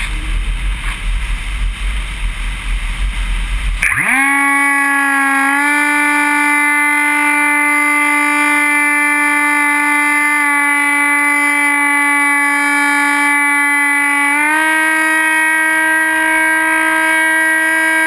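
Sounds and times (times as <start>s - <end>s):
electric motor and propeller whine: 0.0s - 18.0s.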